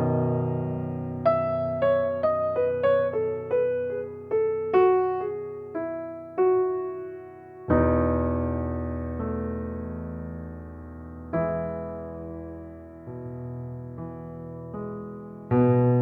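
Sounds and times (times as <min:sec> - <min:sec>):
soft piano melody: 0:00.0 - 0:16.0.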